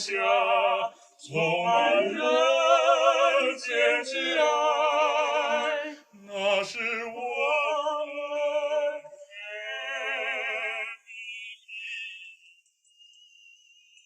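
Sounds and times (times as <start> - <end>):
person singing operatic love song: 0.0 - 12.0.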